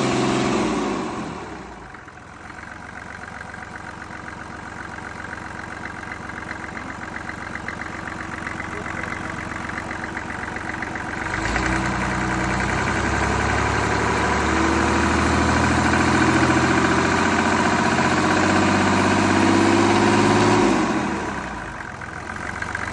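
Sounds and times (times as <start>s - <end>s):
diesel engine idling and revving: 0.0s - 22.9s.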